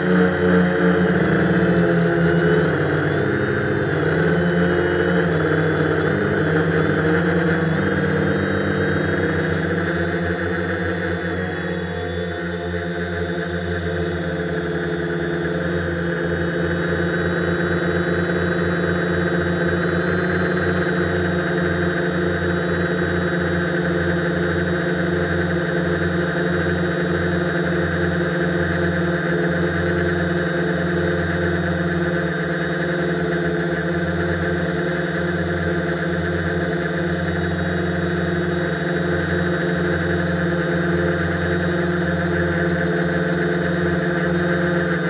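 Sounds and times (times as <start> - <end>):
quadcopter propellers whirring: 0.0 - 45.0.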